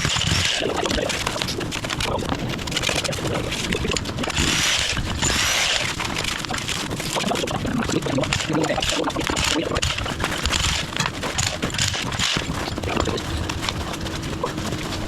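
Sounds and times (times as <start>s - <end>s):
machine running with rattle: 0.0s - 15.0s.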